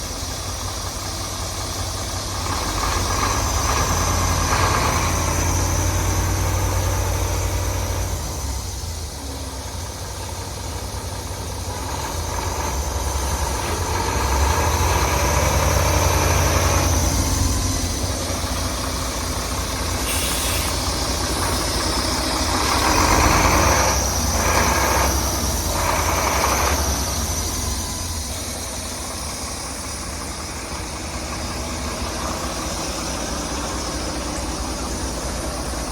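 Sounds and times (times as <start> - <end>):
truck diesel engine idling: 0.0 - 35.9.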